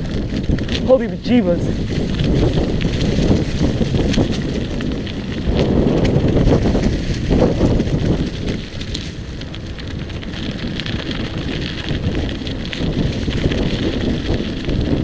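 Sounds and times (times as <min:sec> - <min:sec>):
light crackling and ticking: 0:00.0 - 0:15.0
wind rumbling on microphone: 0:00.0 - 0:15.0.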